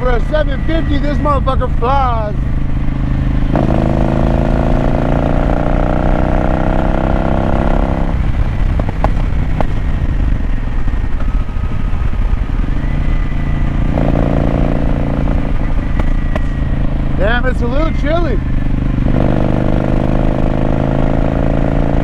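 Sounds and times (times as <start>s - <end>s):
motorcycle engine under throttle: 0.0s - 22.0s
wind rushing on microphone: 0.0s - 22.0s.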